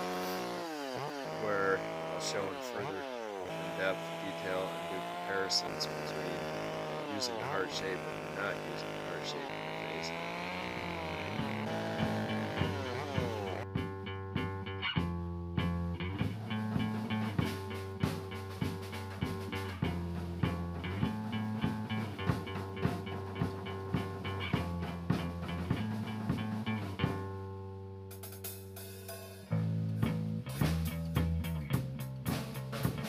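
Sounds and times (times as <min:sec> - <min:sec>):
rock music with guitar and drums: 0:03.8 - 0:27.3, 0:29.4 - 0:33.0.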